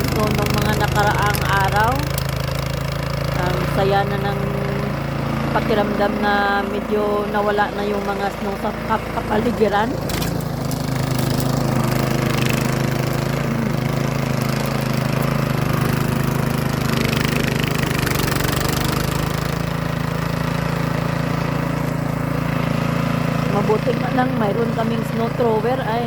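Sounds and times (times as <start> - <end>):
snow thrower engine running: 0.0 - 26.0.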